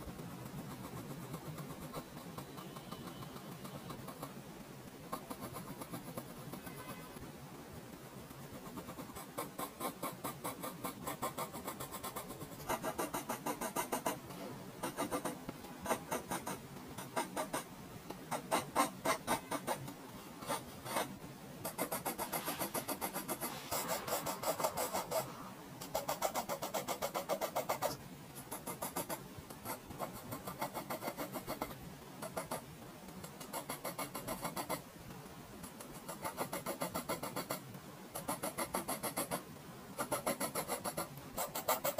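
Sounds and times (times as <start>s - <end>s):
pencil scratching on paper: 0.4s - 4.4s, 5.1s - 6.8s, 8.5s - 17.7s, 18.3s - 32.6s, 33.3s - 34.8s, 35.8s - 37.6s, 38.2s - 39.4s, 40.0s - 41.9s.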